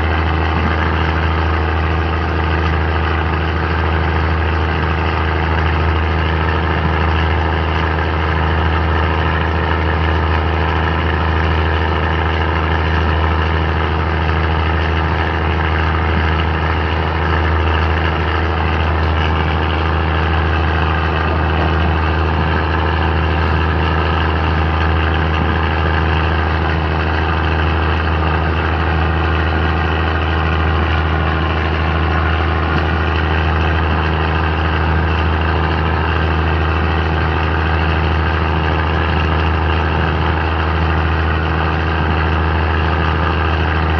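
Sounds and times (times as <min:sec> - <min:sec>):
diesel train engine droning: 0:00.0 - 0:43.9.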